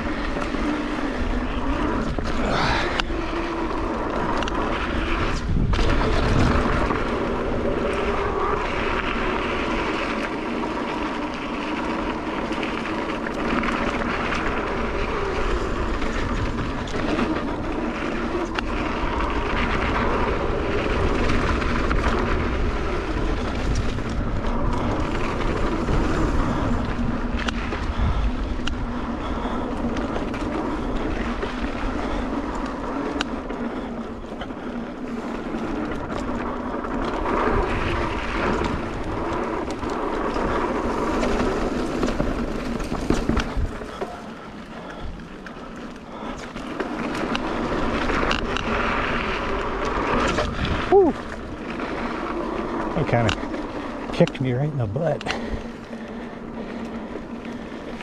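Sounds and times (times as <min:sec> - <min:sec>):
bike frame rattling: 0:00.0 - 0:58.0
bike tyres rumbling over dirt: 0:00.0 - 0:58.0.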